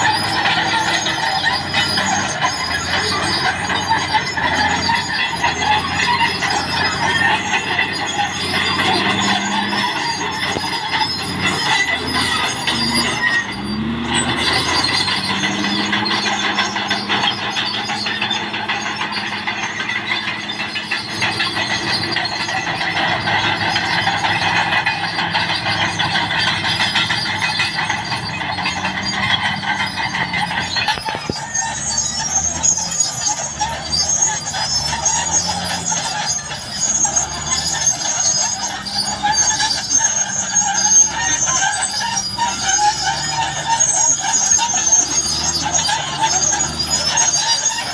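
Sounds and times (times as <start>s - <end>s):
diesel engine under load: 0.0s - 47.9s
steel tracks squealing and clattering: 0.0s - 47.9s.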